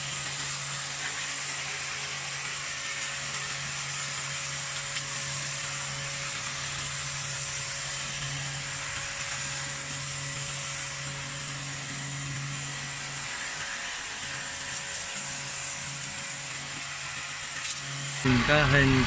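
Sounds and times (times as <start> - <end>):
pressure washer motor hum: 0.0 - 19.0
water spraying hiss: 0.0 - 19.0.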